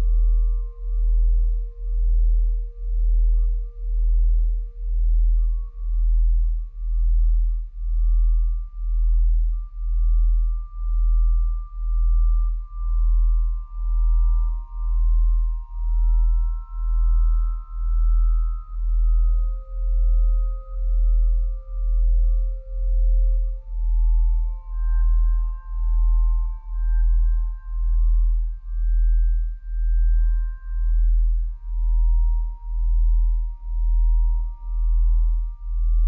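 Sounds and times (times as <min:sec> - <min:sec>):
sine-like tones: 0:00.0 - 0:36.0.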